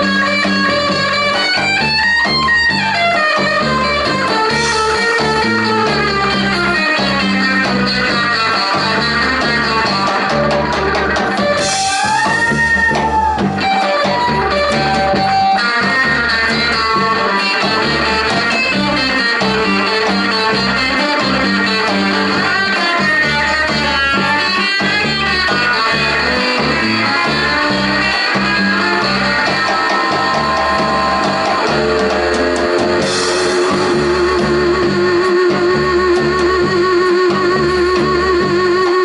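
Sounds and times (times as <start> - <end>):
electric guitar bending notes: 0.0 - 39.0
live band music: 0.0 - 39.0.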